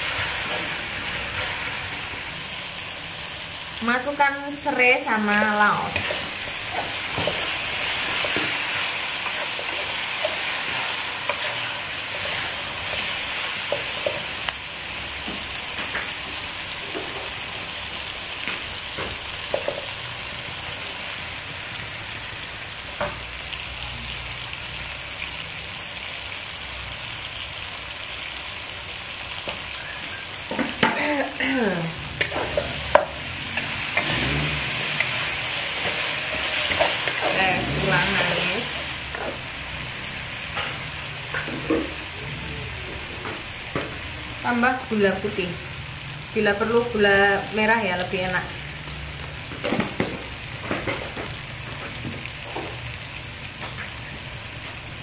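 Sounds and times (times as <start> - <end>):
paste sizzling in a wok: 0.0 - 55.0.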